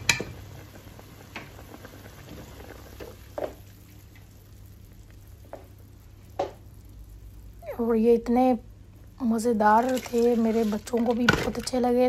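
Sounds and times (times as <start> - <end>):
water bubbling in a pot: 0.0 - 12.0.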